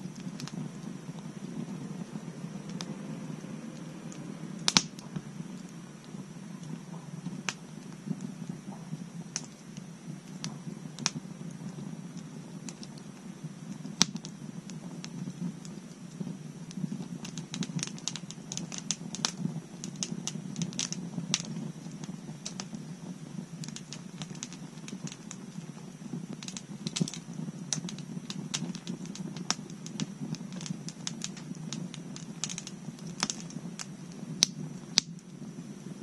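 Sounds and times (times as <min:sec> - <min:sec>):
bonfire crackling and popping: 0:00.0 - 0:36.0.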